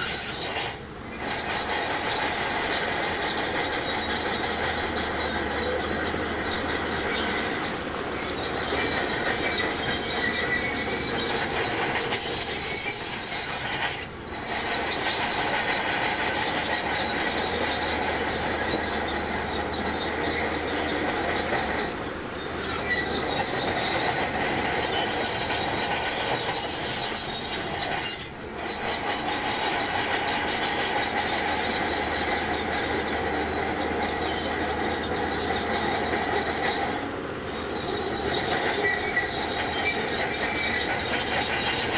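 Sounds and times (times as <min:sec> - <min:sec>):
bulldozer engine under load: 0:00.0 - 0:41.9
steel tracks squealing: 0:00.0 - 0:41.9.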